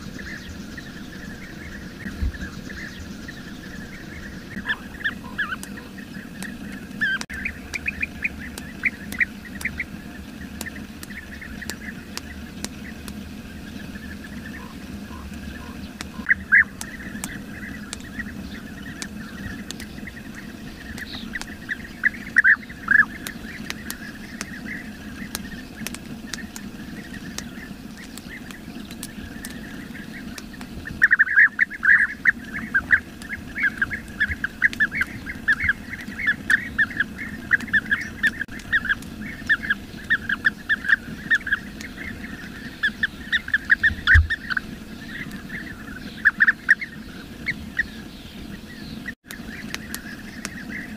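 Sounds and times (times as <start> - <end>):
bee-eaters calling: 0.0 - 50.9.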